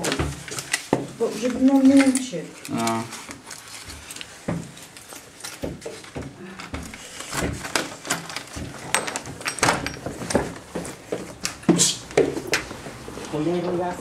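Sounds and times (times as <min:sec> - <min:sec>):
handling noise: 0:00.0 - 0:14.0.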